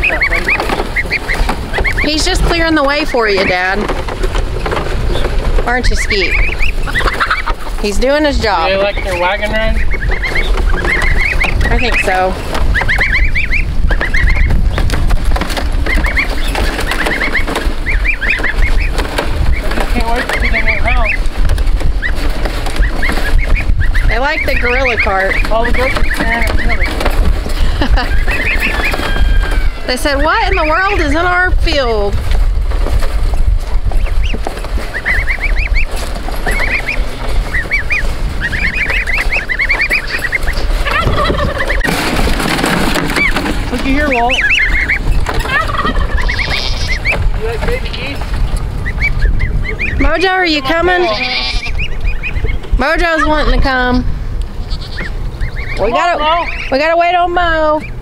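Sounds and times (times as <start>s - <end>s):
goslings peeping: 0.0s - 58.0s
steady low rumble: 0.0s - 58.0s.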